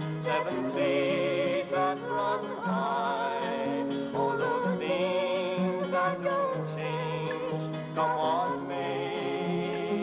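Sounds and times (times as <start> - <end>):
instrumental accompaniment: 0.0 - 10.0
woman singing: 0.1 - 10.0.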